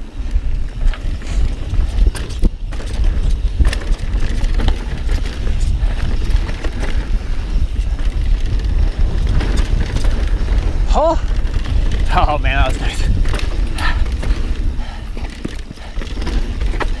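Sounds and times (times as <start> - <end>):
bike clattering over bumps: 0.0 - 17.0
wind rumble on microphone: 0.0 - 17.0
tyres on dirt and rock: 0.2 - 17.0.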